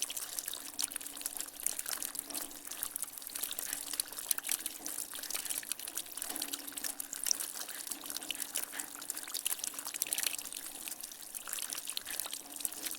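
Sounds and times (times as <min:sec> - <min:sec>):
faint water trickle: 0:00.0 - 0:12.9
water dripping from gutter: 0:00.0 - 0:12.9.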